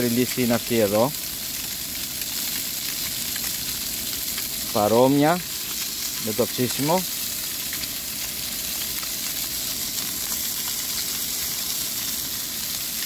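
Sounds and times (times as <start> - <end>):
fish sizzling in a grill pan: 0.0 - 13.0.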